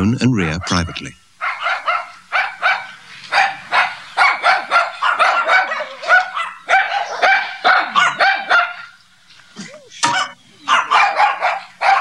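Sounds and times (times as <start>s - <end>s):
animals yelping: 0.4s - 12.0s.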